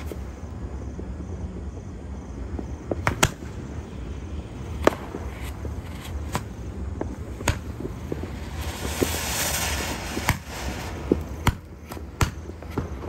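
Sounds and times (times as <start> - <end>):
faint fireworks hiss: 0.0 - 13.0
fireworks bangs: 0.0 - 13.0.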